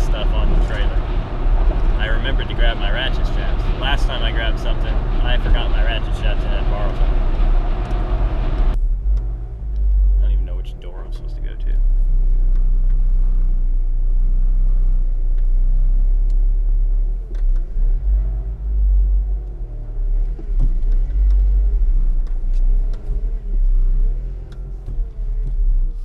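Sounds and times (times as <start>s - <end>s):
pickup truck engine rumbling: 0.0s - 26.0s.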